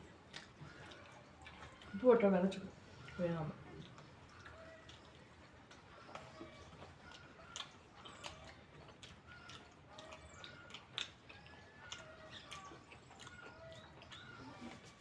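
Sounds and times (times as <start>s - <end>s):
small birds chirping: 0.8s - 15.0s.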